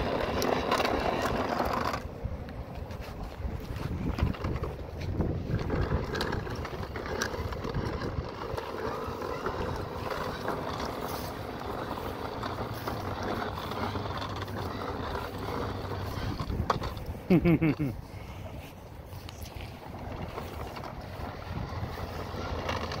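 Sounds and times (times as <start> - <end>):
toy lawnmower rolling on concrete: 0.0 - 23.0.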